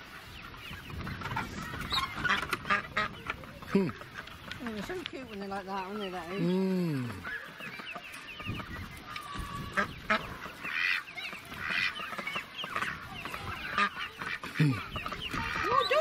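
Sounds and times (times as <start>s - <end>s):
ducklings peeping: 0.0s - 16.0s
ducks honking: 0.0s - 16.0s.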